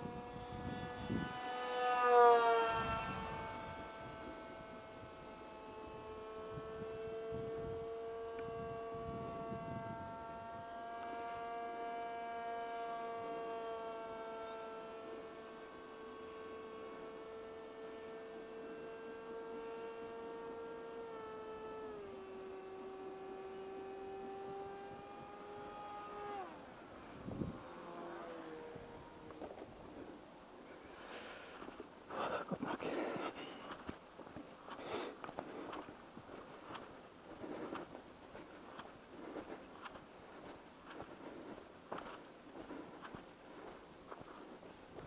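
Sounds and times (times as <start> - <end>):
model plane motor whining: 0.0 - 32.0, 32.8 - 45.0.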